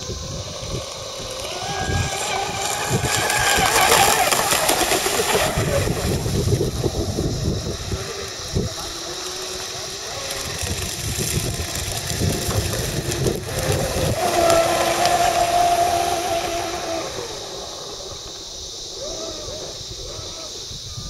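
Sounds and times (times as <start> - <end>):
model boat engine whine: 0.0 - 21.0
wind rumble on microphone: 0.0 - 21.0.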